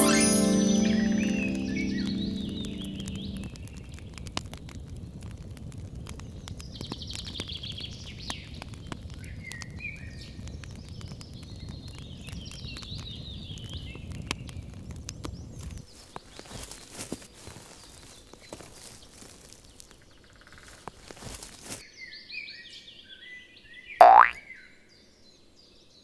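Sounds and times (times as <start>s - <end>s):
campfire crackling and popping: 0.0s - 21.8s.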